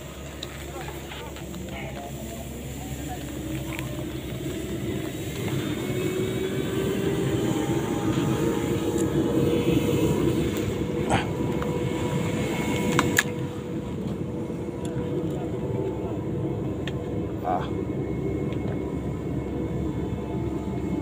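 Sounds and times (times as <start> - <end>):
distant engine drone: 0.0 - 21.0.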